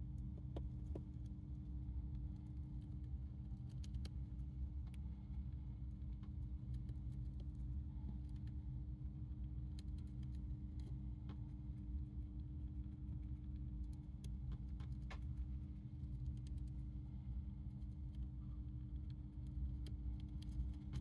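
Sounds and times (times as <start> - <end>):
steady low hum: 0.0 - 21.0
hamster crunching lettuce: 0.7 - 21.0.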